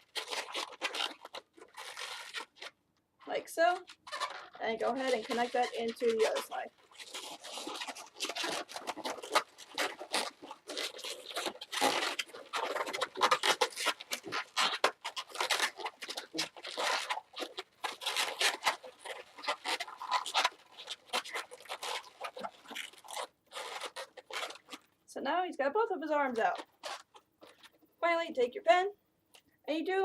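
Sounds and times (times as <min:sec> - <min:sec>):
balloons rubbing and scraping: 0:00.0 - 0:24.9, 0:26.0 - 0:27.8.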